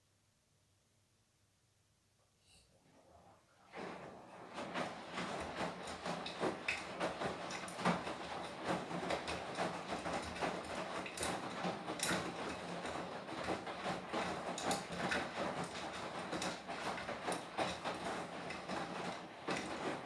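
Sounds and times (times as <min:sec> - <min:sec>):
washing machine drum tumbling: 0:03.7 - 0:20.0.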